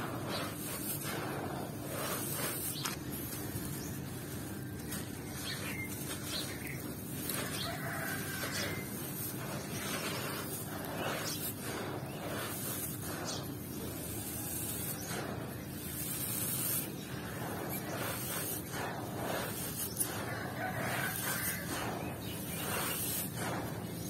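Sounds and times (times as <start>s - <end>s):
sand and gravel crunching: 0.0s - 24.0s
sand trickling down: 0.0s - 24.0s.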